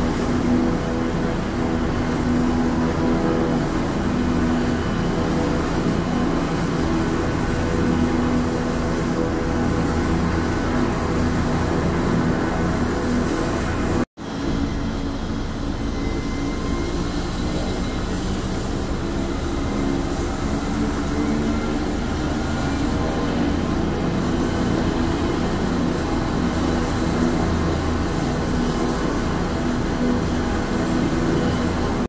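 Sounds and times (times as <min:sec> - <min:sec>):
helicopter engine and rotor: 0:00.0 - 0:32.0
high turbine whine: 0:00.0 - 0:32.0.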